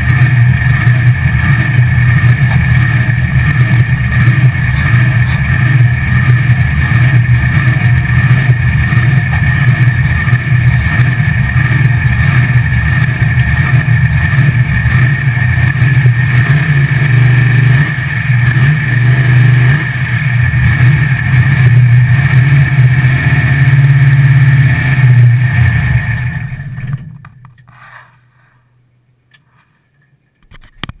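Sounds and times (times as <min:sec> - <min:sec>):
truck engine idling choppily: 0:00.0 - 0:29.1.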